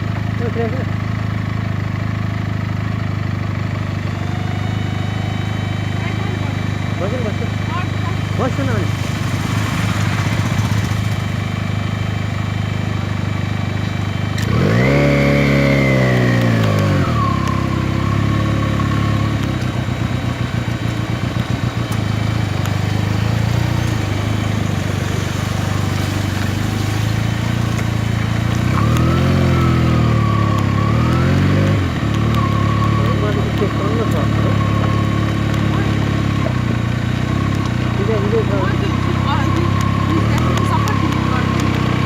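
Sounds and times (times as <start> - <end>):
motorcycle engine idling and revving: 0.0 - 42.0.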